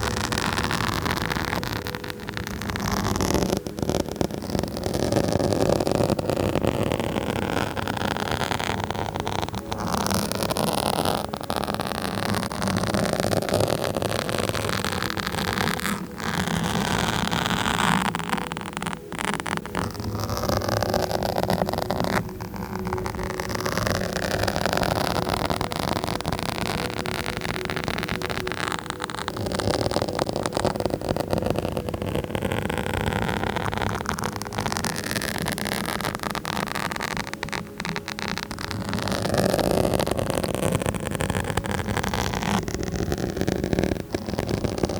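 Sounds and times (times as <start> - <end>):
scratching on microphone: 0.0 - 44.9.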